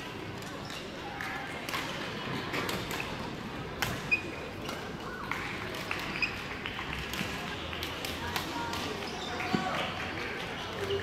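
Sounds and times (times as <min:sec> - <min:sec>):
murmur of voices echoing: 0:00.0 - 0:11.0.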